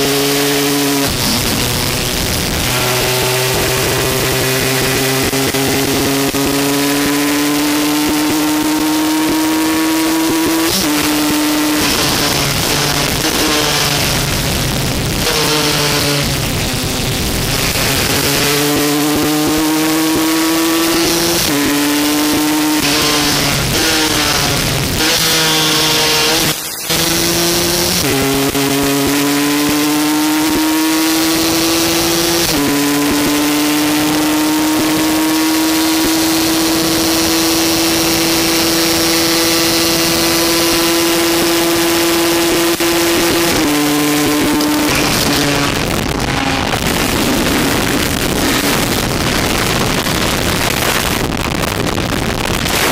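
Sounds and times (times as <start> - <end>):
motorcycle engine at full throttle: 0.0 - 52.9
wind noise: 0.0 - 52.9.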